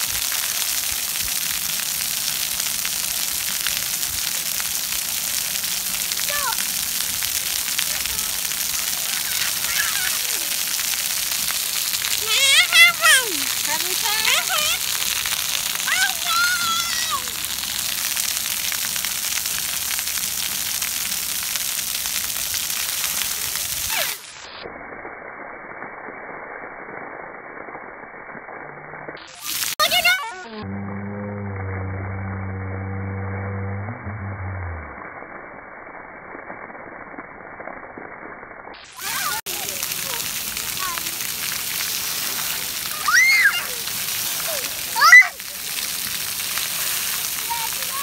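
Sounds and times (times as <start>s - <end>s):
water jets spraying on concrete: 0.0s - 48.0s.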